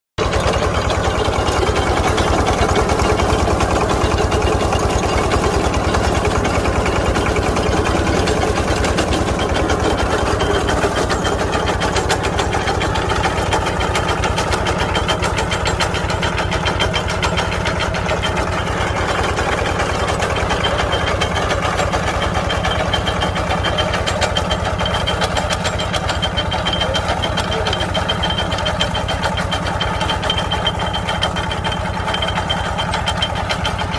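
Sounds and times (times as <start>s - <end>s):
harvester engine running: 0.2s - 33.9s.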